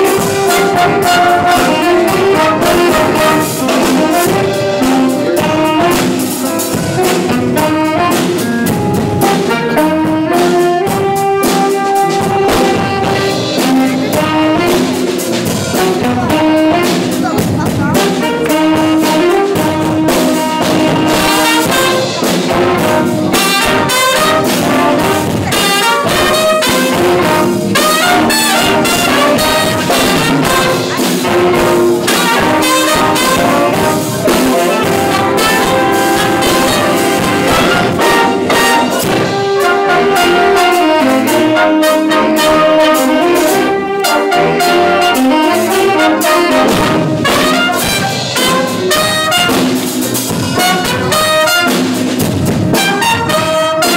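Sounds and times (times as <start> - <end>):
jazz band playing: 0.0 - 53.9.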